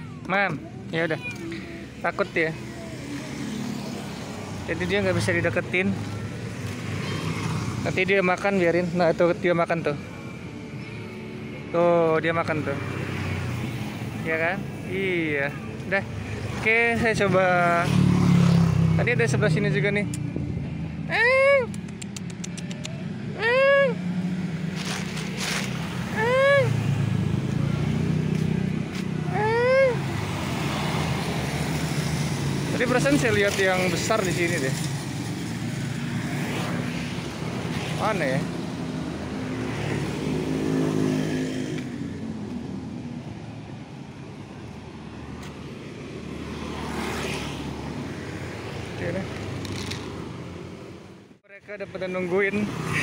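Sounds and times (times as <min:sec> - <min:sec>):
traffic noise: 0:00.0 - 0:53.0
vehicle engine hum: 0:00.0 - 0:53.0.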